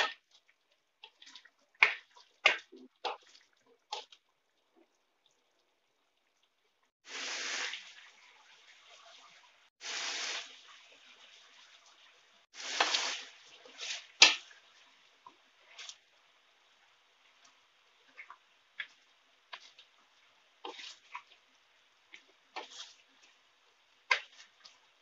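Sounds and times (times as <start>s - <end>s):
faint steady simmer: 0.0s - 25.0s
sauce sizzling and bubbling: 0.0s - 25.0s.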